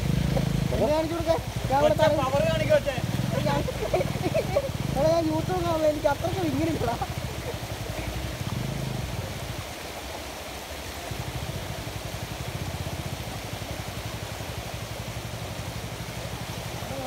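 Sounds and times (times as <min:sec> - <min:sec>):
river water rushing: 0:00.0 - 0:17.0
vehicle engine running: 0:00.0 - 0:17.0.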